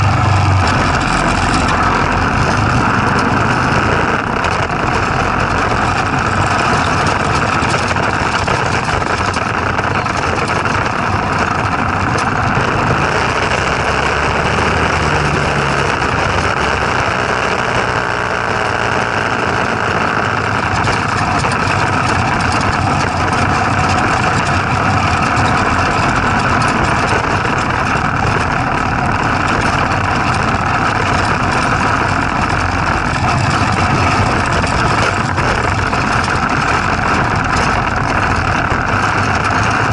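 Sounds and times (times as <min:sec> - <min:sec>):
small engine droning: 0:00.0 - 0:39.9.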